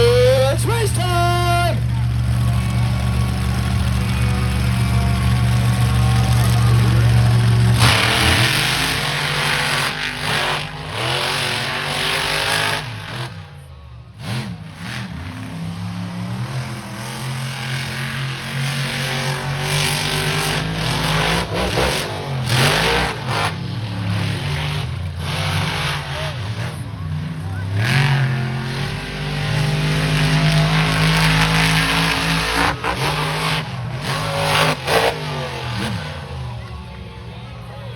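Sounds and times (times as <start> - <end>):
monster truck engines revving: 0.0 - 37.9.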